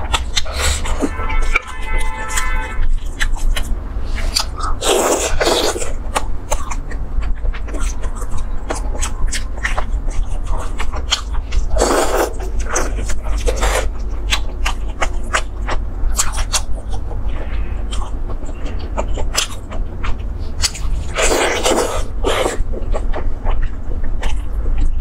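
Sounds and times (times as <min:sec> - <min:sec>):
low hum: 0:00.0 - 0:25.0
sticky mouth clicks: 0:00.0 - 0:25.0
wet chewing and lip-smacking: 0:00.0 - 0:25.0.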